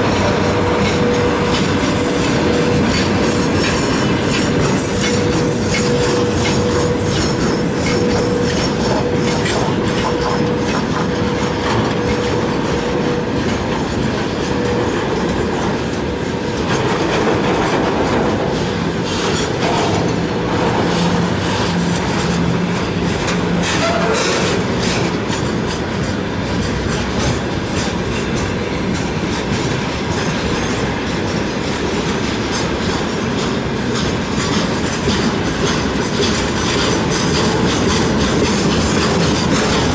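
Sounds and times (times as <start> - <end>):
clacking over rail joints: 0.0 - 39.9
train wheels rushing on rails: 0.0 - 39.9.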